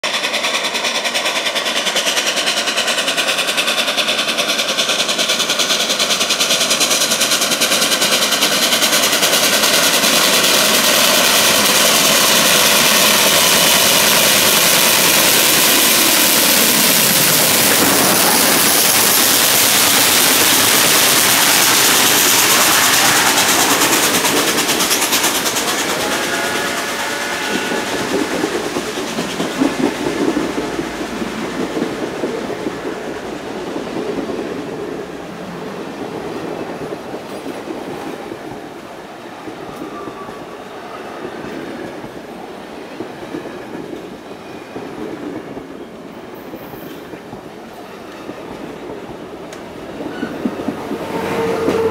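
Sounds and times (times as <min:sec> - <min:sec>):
steam locomotive exhaust beats: 0:00.0 - 0:51.9
train wheels clattering on rails: 0:00.0 - 0:51.9.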